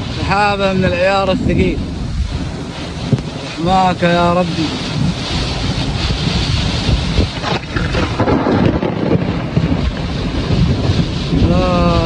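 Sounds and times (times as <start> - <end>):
heavy rain: 0.0 - 12.0
strong storm wind: 0.0 - 12.0.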